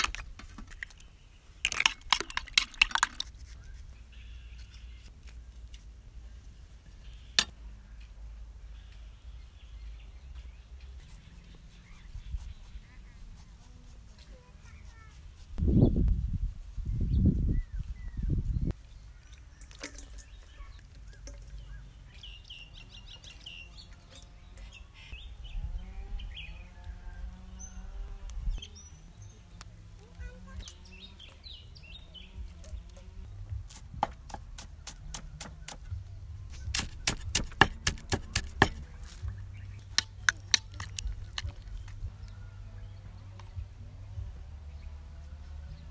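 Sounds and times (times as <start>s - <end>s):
birds chirping: 0.0s - 5.1s, 6.1s - 16.0s, 16.8s - 45.9s.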